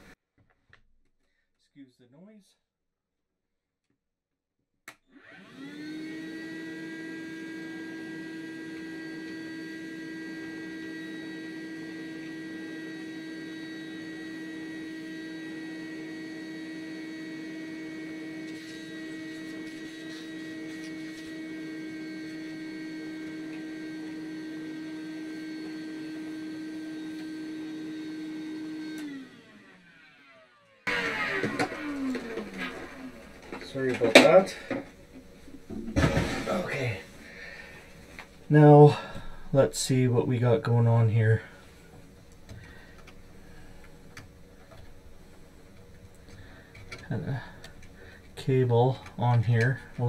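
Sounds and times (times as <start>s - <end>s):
vacuum cleaner running: 5.1s - 50.0s.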